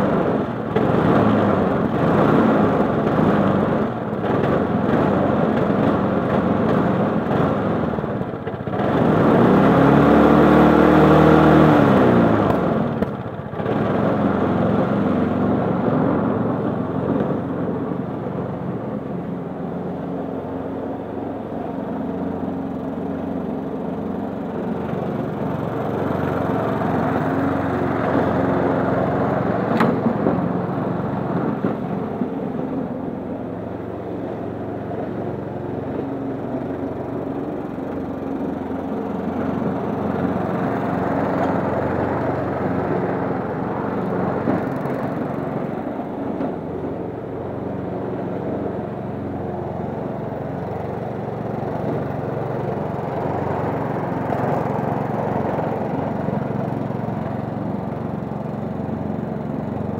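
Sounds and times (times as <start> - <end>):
lawn mower running on grass: 0.0 - 59.9.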